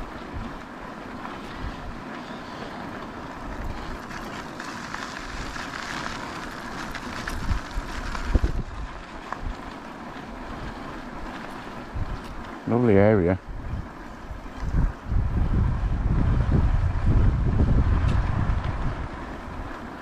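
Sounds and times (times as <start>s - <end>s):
bike rolling noise: 0.0s - 20.0s
wind buffeting microphone: 0.0s - 20.0s.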